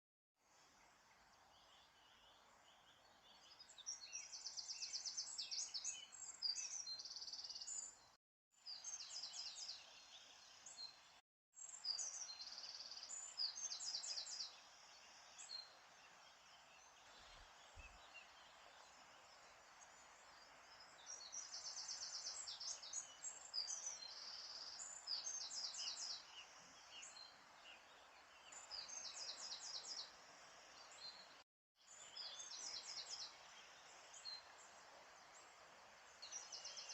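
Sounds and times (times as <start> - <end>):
faint steady hiss: 0.4 - 36.9.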